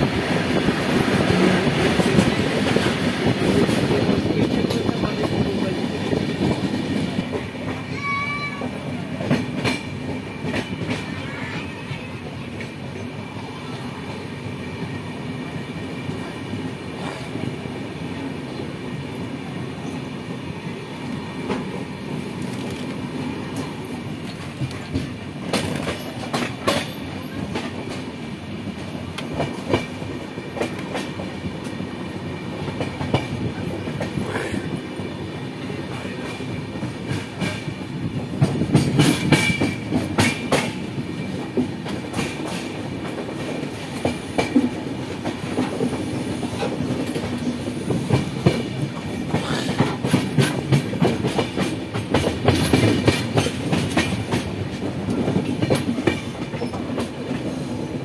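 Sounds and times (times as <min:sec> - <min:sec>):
clickety-clack over rail joints: 0:00.0 - 0:20.0, 0:21.0 - 0:58.0
train wheels rumbling on track: 0:00.0 - 0:58.0.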